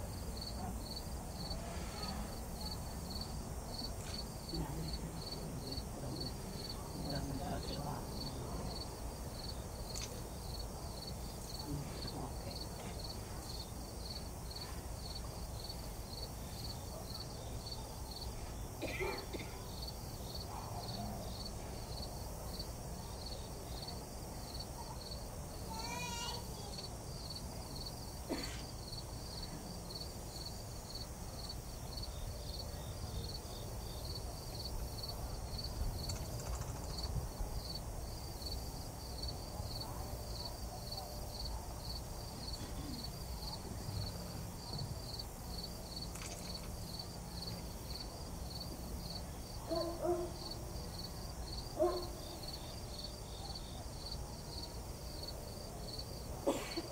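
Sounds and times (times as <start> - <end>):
crickets chirping: 0.0 - 56.9
low steady background hum: 0.0 - 56.9.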